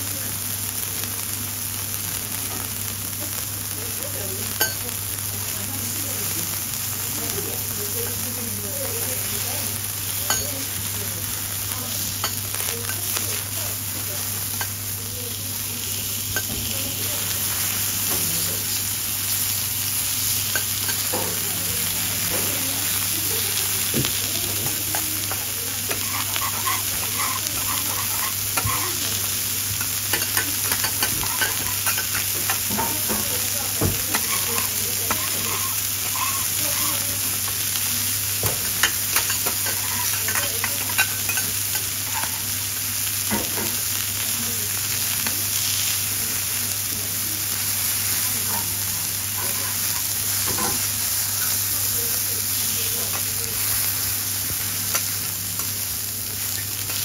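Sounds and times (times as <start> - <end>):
food sizzling on a griddle: 0.0 - 57.0.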